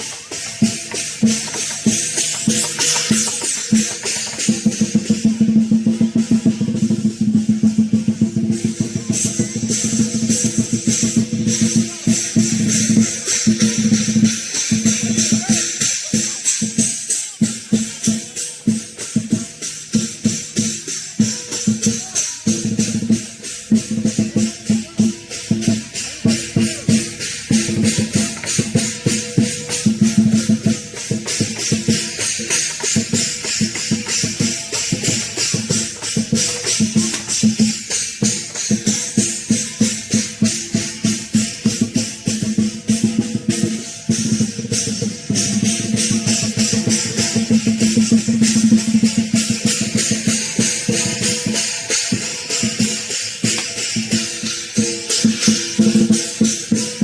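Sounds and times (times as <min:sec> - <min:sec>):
big drum beating: 0:00.0 - 0:57.0
cymbals clashing: 0:00.0 - 0:57.0.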